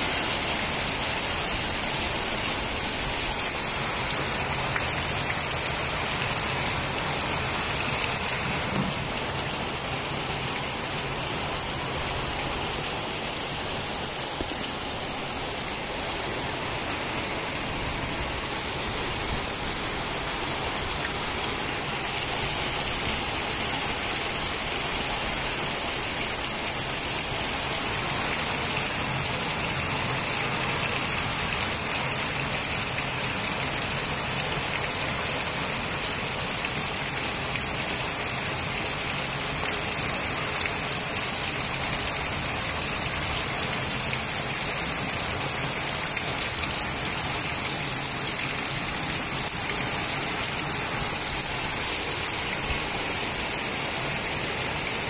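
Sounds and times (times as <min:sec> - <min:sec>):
heavy rain on rooftops: 0:00.0 - 0:55.0.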